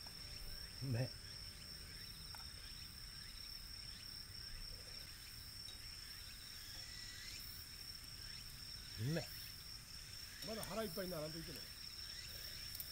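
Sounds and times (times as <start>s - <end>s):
insect rapid chirps: 0.0s - 12.9s
insects trilling: 0.0s - 12.9s.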